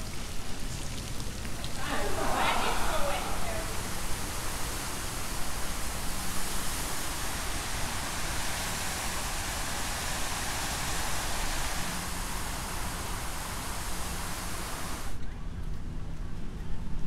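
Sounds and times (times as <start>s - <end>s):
steady rushing hiss: 0.0s - 15.2s.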